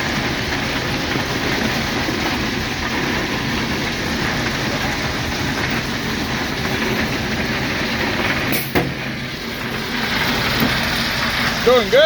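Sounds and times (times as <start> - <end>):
diesel locomotive running: 0.0 - 12.0
train cars rolling on rails: 0.0 - 12.0.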